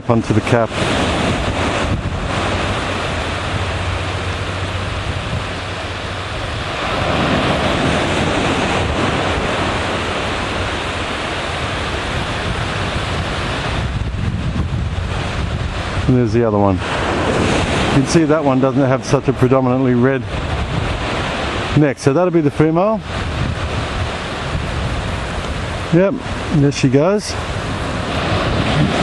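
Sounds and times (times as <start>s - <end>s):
surf washing onto beach: 0.0s - 29.0s
wind buffeting microphone: 0.0s - 29.0s.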